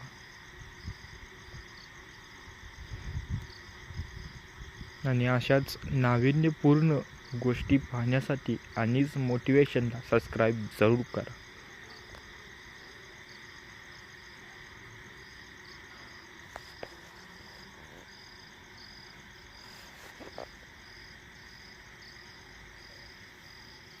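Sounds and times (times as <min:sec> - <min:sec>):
frogs and insects droning: 0:00.0 - 0:24.0.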